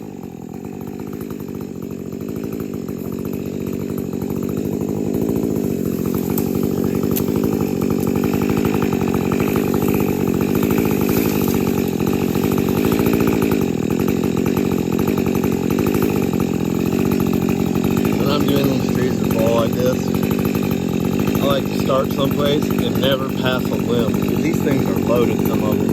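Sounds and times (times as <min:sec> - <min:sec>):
chainsaw cutting wood: 0:00.0 - 0:25.9.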